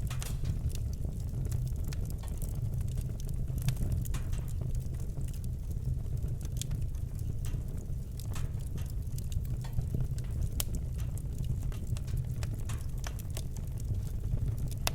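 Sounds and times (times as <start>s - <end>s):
burning logs crackling and popping: 0.0s - 14.9s
low rumble of flames: 0.0s - 14.9s.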